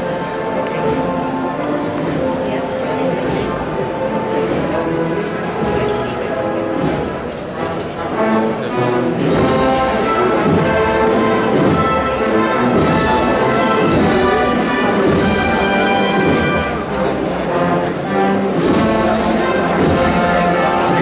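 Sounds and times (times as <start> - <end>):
brass band playing a march: 0.0 - 21.0.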